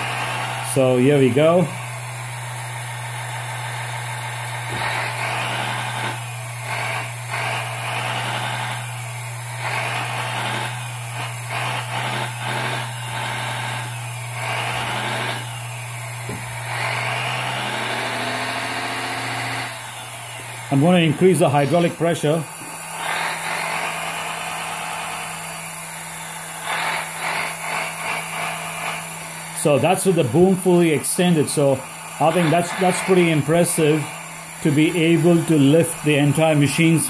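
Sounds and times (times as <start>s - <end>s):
hydraulic pump humming: 0.0s - 37.0s.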